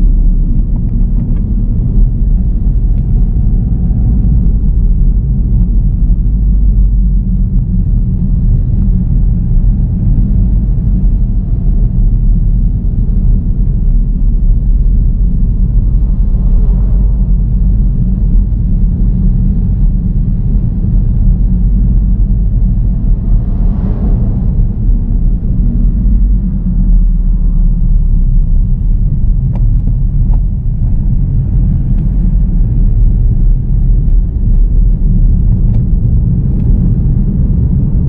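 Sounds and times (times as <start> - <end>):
car driving on road: 0.0 - 38.0.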